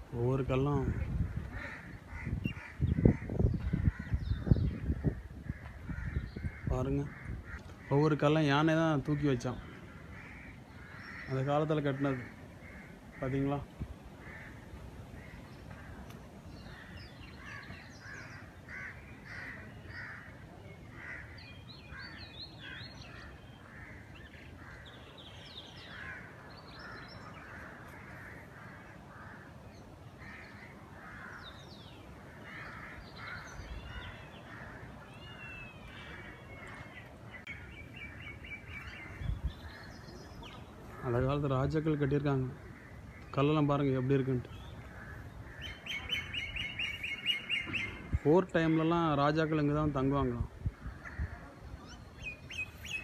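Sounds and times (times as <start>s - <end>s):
small birds chirping: 0.0s - 53.0s
crows cawing: 0.5s - 53.0s.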